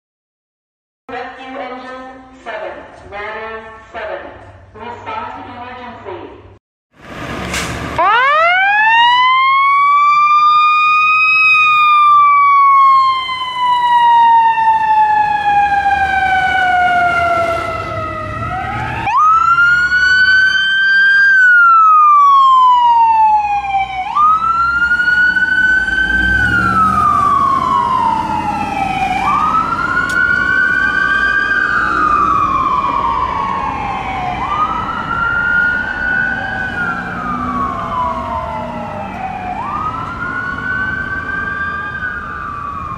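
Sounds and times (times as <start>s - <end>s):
sirens wailing: 7.3s - 42.9s.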